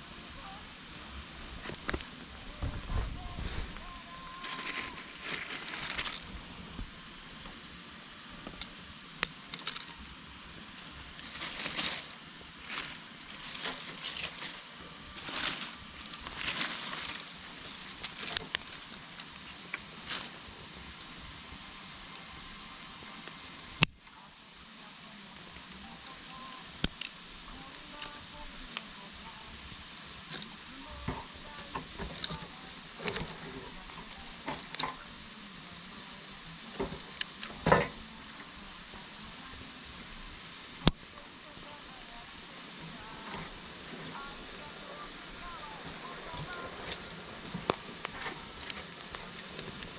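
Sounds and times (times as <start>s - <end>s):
campfire crackling and hissing: 0.0s - 49.9s
fire popping: 0.0s - 49.9s.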